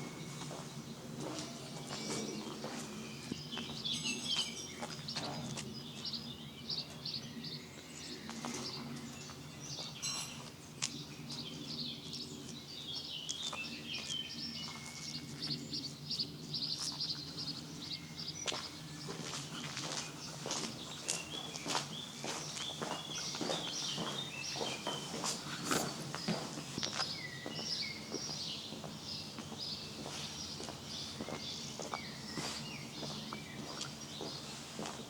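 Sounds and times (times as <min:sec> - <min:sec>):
songbirds chirping and singing: 0:00.0 - 0:35.0.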